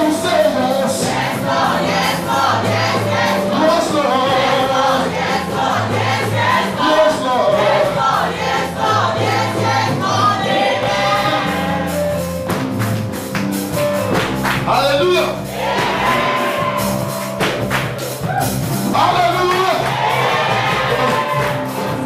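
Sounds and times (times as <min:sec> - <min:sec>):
bass and drums: 0:00.0 - 0:22.0
choir singing gospel music: 0:00.0 - 0:22.0.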